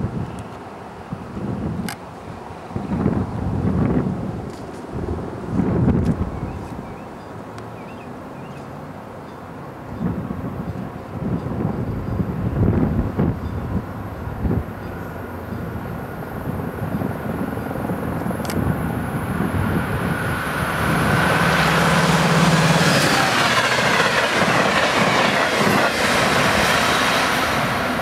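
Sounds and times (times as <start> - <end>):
train passing on track: 0.0 - 28.0.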